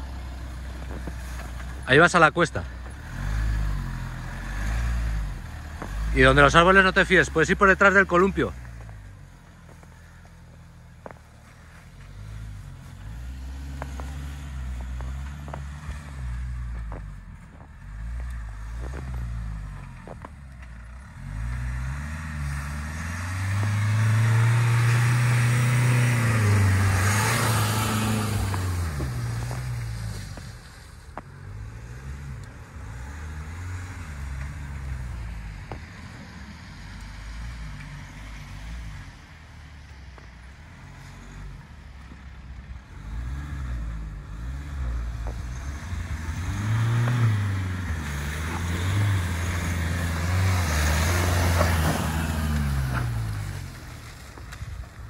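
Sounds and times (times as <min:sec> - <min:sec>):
car engine revving: 0:00.0 - 0:10.0, 0:11.0 - 0:35.8, 0:42.9 - 0:54.3.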